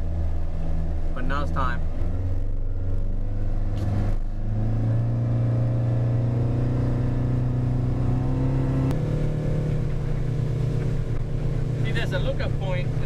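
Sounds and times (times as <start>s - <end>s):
motorboat engine: 0.0s - 13.0s.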